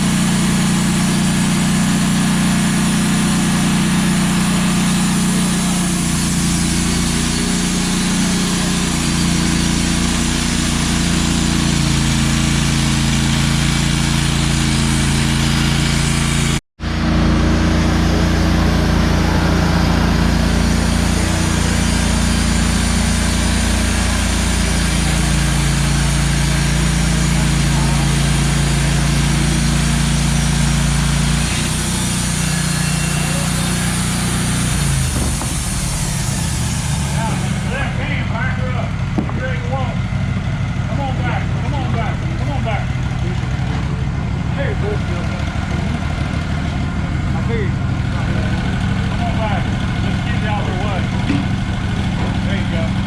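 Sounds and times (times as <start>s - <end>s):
band sawmill running: 0.0s - 53.0s.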